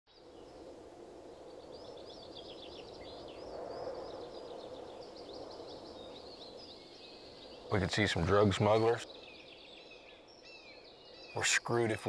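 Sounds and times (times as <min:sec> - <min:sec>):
low outdoor background noise: 0:00.1 - 0:12.0
songbird chirping: 0:00.1 - 0:12.0.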